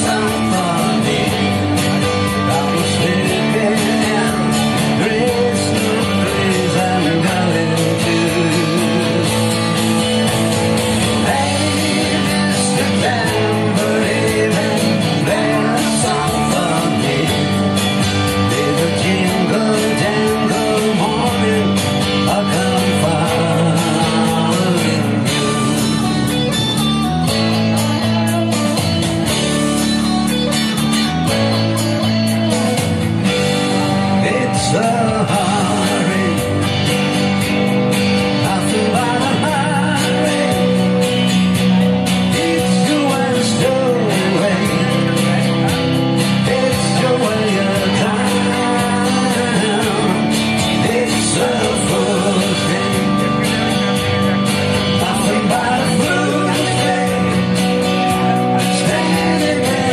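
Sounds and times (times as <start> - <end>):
man singing: 0.0 - 29.9, 33.3 - 59.9
acoustic guitar strumming: 0.0 - 59.9
electric guitar: 0.0 - 59.9.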